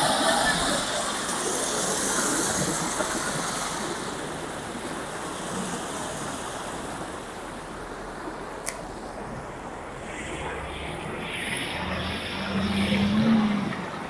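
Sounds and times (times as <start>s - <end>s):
floodwater rushing along gully: 0.0s - 14.0s.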